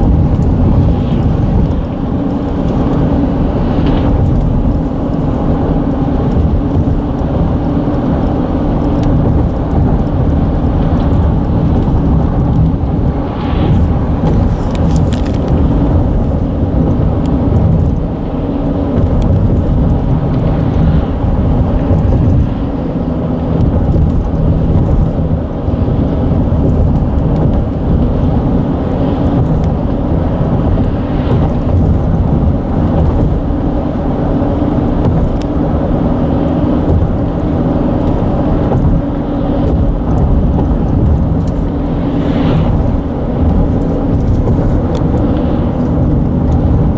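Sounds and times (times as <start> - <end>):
bridge rumbling under traffic: 0.0 - 46.9.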